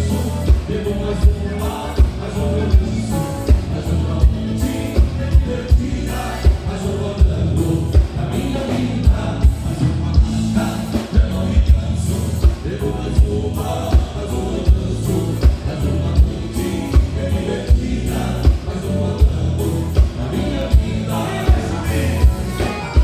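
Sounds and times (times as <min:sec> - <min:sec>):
band playing live: 0:00.0 - 0:23.0
person singing: 0:00.0 - 0:23.0
steady bass drum beat: 0:00.0 - 0:23.0.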